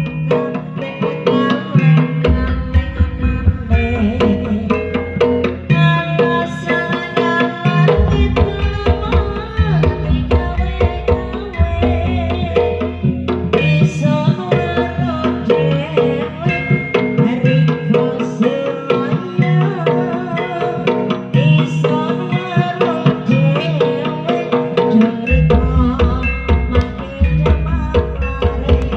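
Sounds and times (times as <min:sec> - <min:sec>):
hand drums playing quick rhythm: 0:00.0 - 0:28.9.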